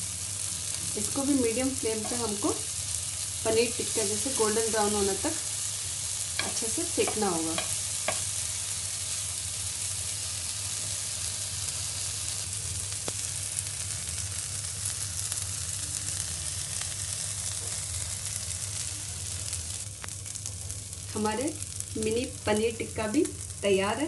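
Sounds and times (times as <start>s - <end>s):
paneer sizzling in oil: 0.0s - 24.0s.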